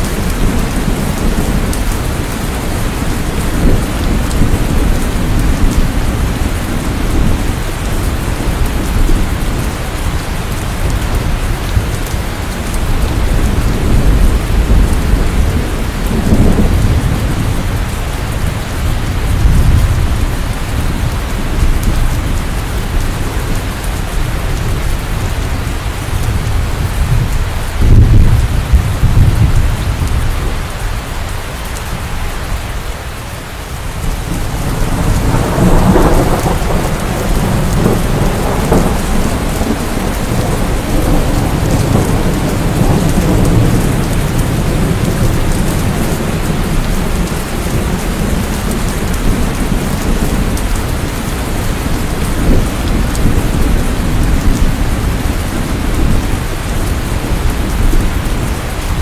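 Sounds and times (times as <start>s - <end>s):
steady rain: 0.0s - 59.0s
thunder rumbling: 0.0s - 59.0s.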